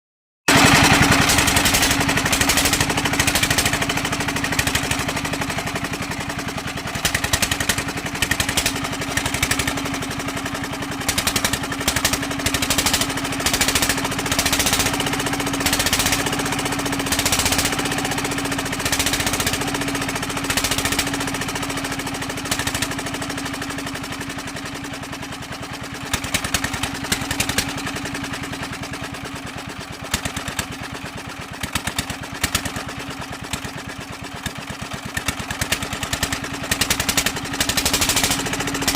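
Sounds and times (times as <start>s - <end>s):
single-cylinder diesel engine knocking: 0.5s - 38.9s.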